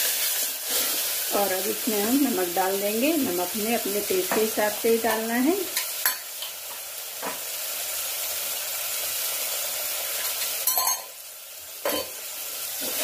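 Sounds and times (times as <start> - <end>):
masala sizzling in pot: 0.0 - 13.0.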